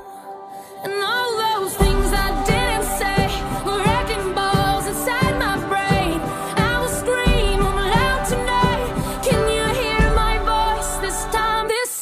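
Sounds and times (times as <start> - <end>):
woman singing: 0.0 - 12.0
bass and drums: 1.8 - 11.7.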